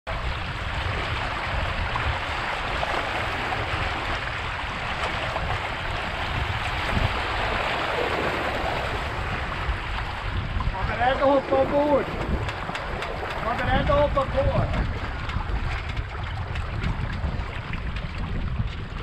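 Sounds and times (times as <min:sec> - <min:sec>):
water lapping along hulls: 0:00.1 - 0:19.0
wind buffeting microphone: 0:00.1 - 0:19.0.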